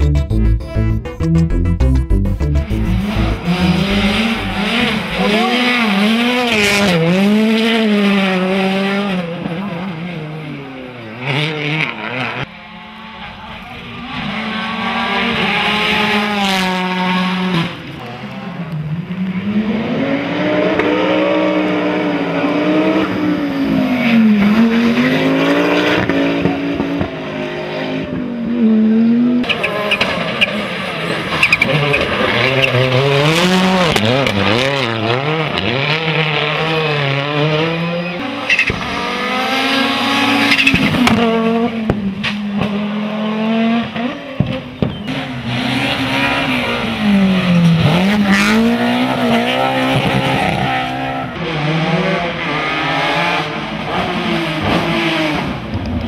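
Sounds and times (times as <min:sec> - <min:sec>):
rally cars revving past: 0:02.9 - 0:56.0.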